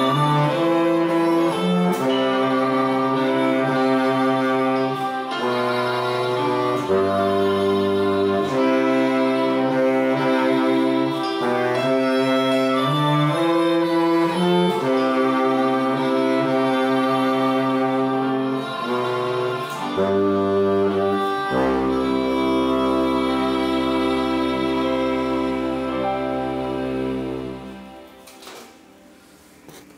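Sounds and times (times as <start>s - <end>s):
bass saxophone playing hymn: 0.0s - 29.4s
sustained chords: 0.0s - 29.6s.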